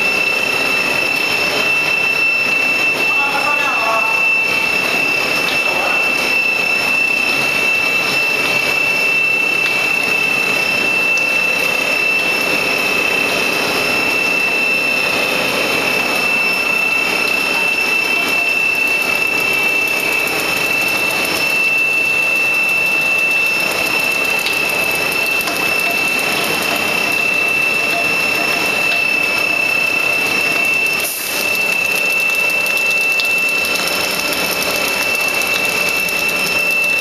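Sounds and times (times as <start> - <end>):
high-pitched machine whine: 0.0 - 37.0
machine running: 0.0 - 37.0.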